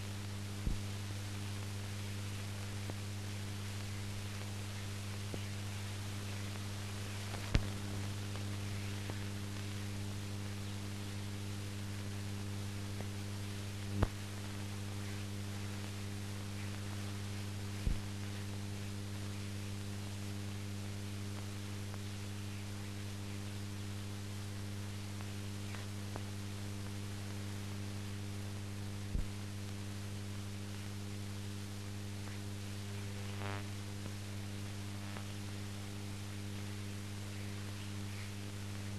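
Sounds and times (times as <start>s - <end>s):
mains hum: 0.0s - 38.9s.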